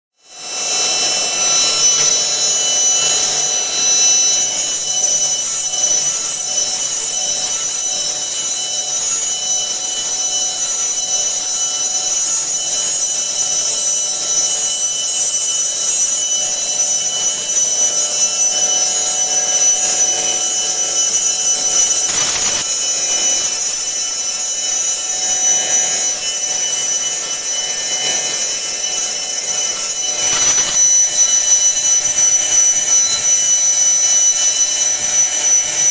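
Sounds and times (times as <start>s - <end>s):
mill high-pitched whine: 0.2s - 35.9s.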